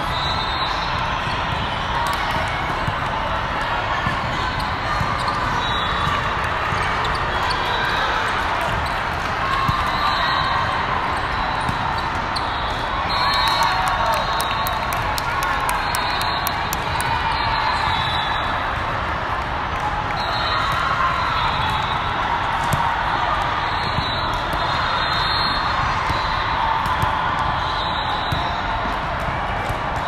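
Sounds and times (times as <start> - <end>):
sports hall din: 0.0 - 30.0.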